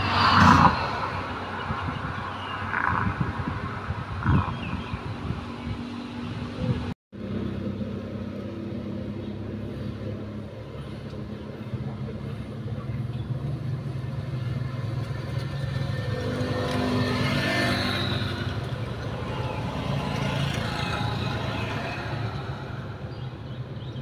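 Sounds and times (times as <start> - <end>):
traffic passing: 0.0 - 24.0
vehicle engine humming: 3.9 - 24.0.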